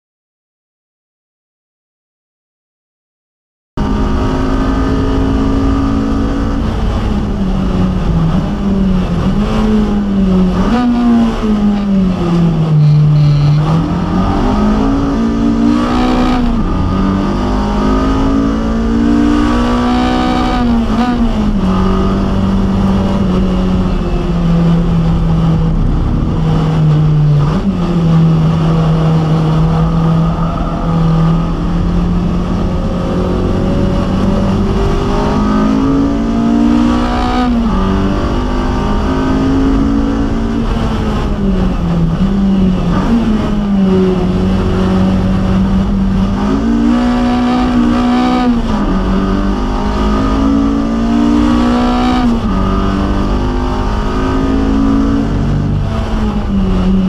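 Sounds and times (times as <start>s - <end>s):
car engine revving at high revs: 3.8s - 57.0s.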